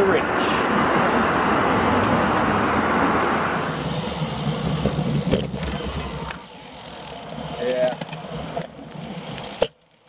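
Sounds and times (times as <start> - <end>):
passing car traffic: 0.0 - 10.0.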